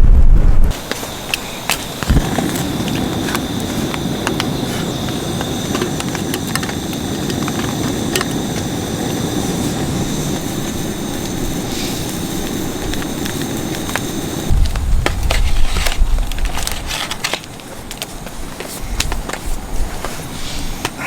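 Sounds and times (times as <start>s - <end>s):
strong wind blowing: 0.0s - 17.3s.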